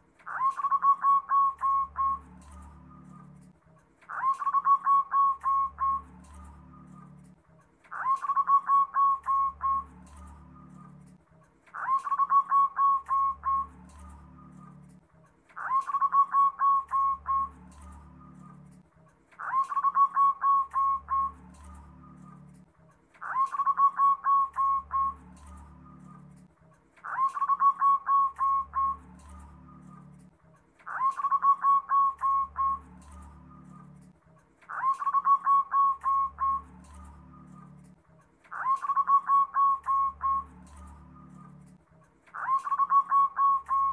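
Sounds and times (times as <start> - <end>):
dove cooing: 0.2 - 3.5, 4.1 - 15.0, 15.6 - 18.8, 19.4 - 22.6, 23.2 - 30.2, 30.8 - 34.1, 34.7 - 41.7, 42.3 - 43.9.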